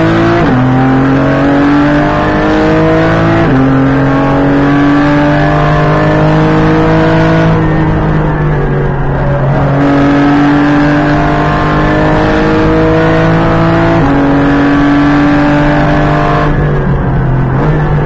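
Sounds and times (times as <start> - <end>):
racing engine at full throttle: 0.0 - 18.0.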